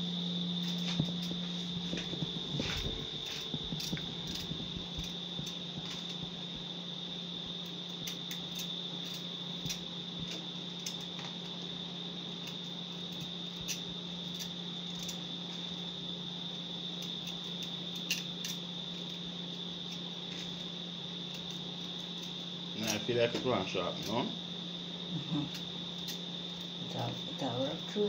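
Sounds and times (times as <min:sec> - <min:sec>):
constant low hum: 0:00.0 - 0:28.0.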